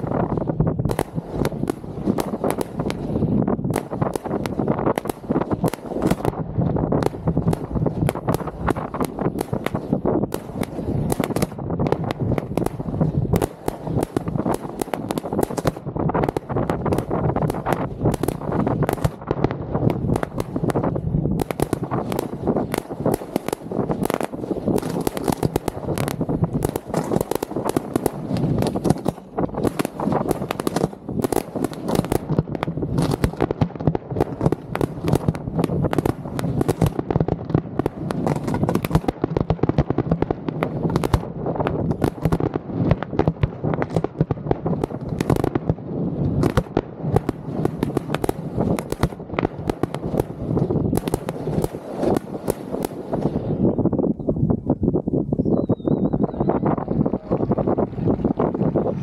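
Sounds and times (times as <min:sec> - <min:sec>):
fireworks launching and bursting: 0:00.0 - 0:54.2.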